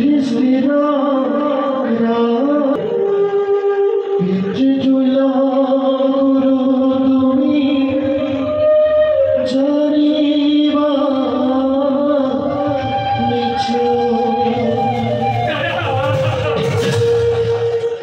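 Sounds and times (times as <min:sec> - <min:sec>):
music: 0:00.0 - 0:18.0
person singing long notes: 0:00.0 - 0:18.0.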